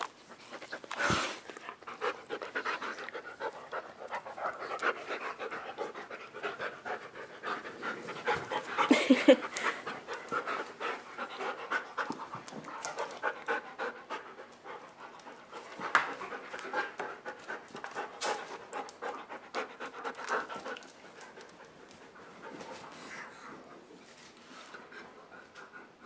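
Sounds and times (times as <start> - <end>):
dogs panting: 0.2 - 26.0.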